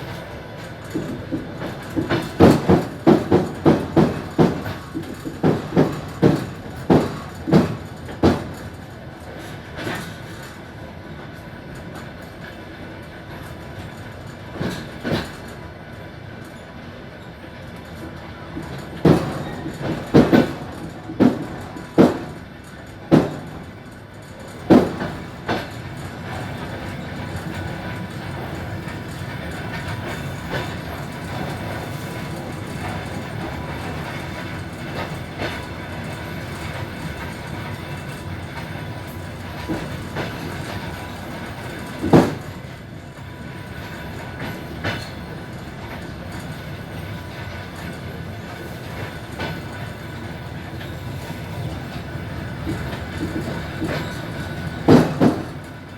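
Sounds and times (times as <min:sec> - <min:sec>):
train rumble: 0:00.0 - 0:55.9
train wheels clacking on rail joints: 0:00.0 - 0:55.9.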